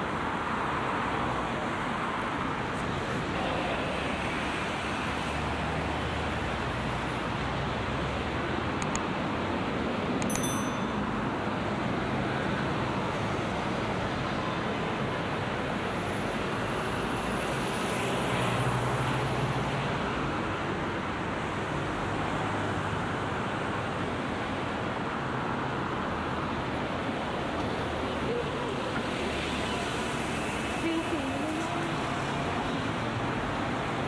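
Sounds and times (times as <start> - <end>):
road traffic rushing: 0.0 - 34.0.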